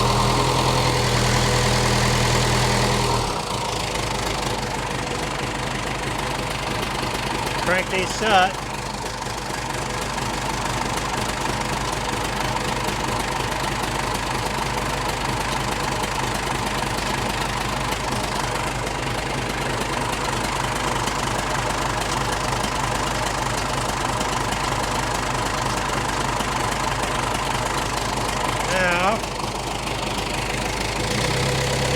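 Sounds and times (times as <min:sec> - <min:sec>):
diesel engine idling: 0:00.0 - 0:31.9.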